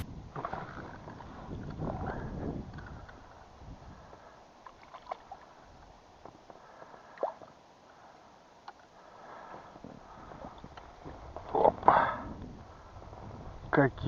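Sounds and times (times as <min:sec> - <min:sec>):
water lapping and dripping: 0:00.3 - 0:12.1.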